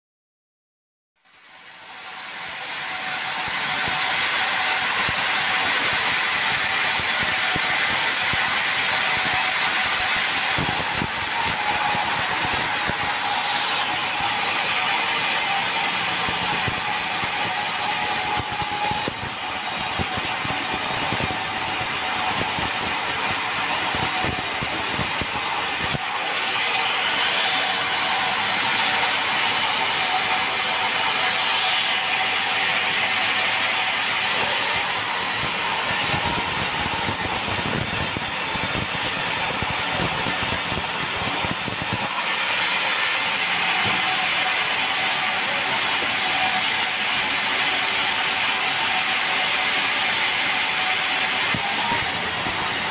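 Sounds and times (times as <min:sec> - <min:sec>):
band saw machinery running: 0:01.3 - 0:52.9.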